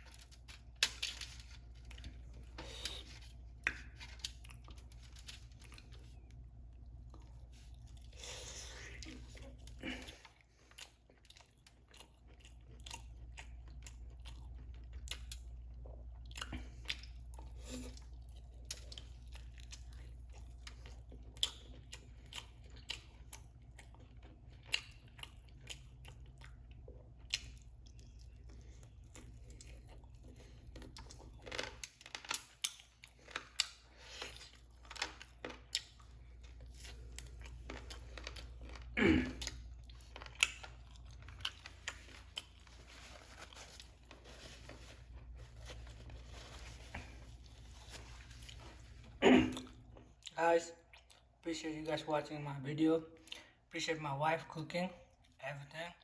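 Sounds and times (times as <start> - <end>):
chewing and crunching food: 0.0 - 52.1, 53.1 - 53.7, 54.5 - 56.0.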